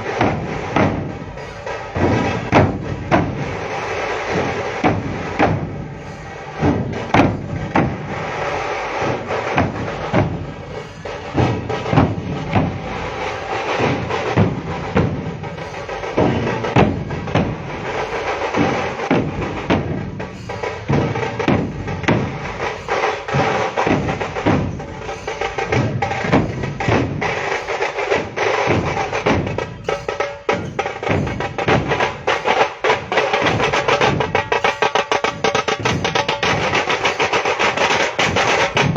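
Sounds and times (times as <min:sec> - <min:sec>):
drums beaten in steady rhythm: 0:00.0 - 0:38.9.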